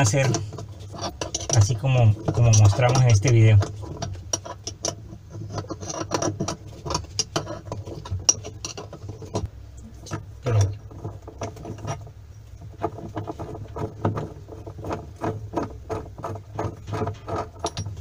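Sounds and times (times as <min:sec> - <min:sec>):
metallic clicks and scraping: 0:00.0 - 0:18.0.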